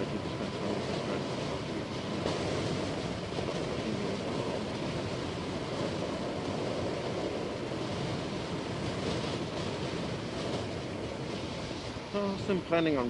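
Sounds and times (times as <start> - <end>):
wind over microphone: 0.0 - 13.0.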